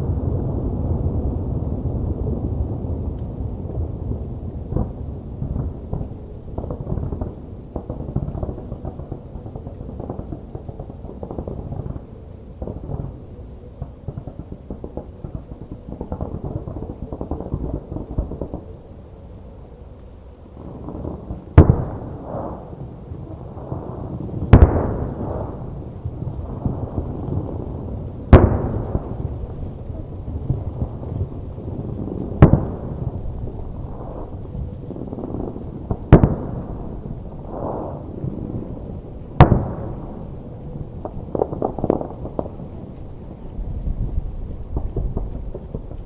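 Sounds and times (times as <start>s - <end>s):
fireworks booms and crackling: 0.0s - 19.0s, 20.6s - 46.0s.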